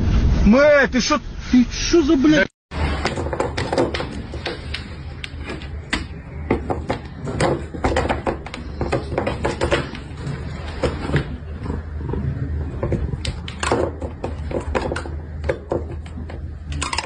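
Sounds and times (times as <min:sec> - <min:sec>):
steady low hum: 0:02.7 - 0:17.0.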